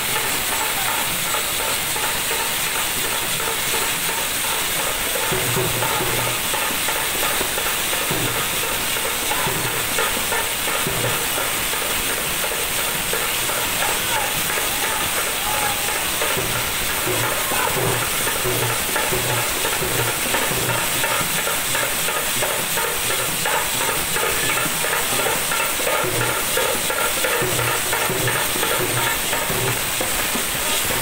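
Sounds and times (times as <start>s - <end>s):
hand drum beat: 0.0s - 31.0s
loud hiss: 0.0s - 31.0s.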